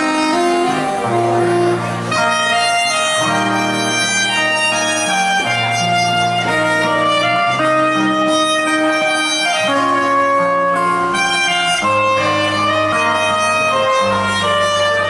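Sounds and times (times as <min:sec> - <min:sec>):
acoustic guitar: 0:00.0 - 0:15.0
soprano saxophone melody: 0:00.0 - 0:15.0.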